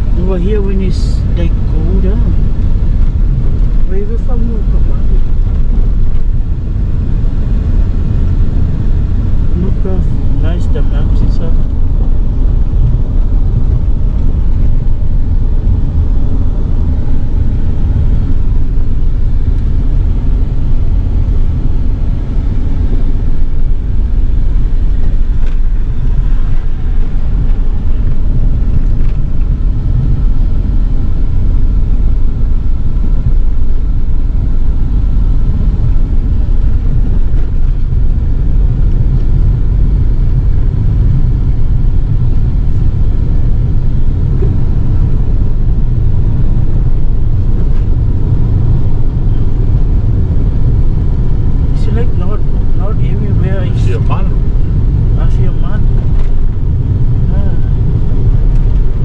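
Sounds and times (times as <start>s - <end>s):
car road noise rumble: 0.0s - 59.0s
wind buffeting microphone: 0.0s - 59.0s.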